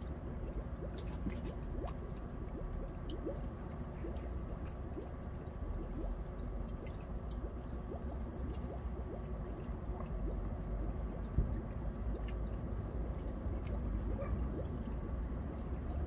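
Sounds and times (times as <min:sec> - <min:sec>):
bubbling plinks: 0:00.0 - 0:16.0
steady low water wash: 0:00.0 - 0:16.0
water trickling and dripping: 0:00.0 - 0:16.0.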